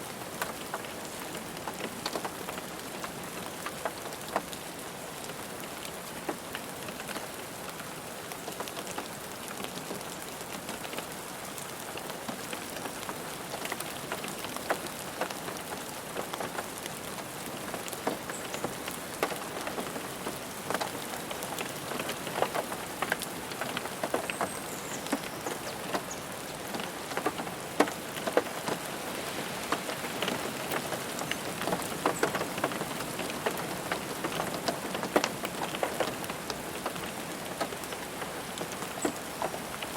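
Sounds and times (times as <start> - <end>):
rain pattering on a car roof: 0.0 - 39.9.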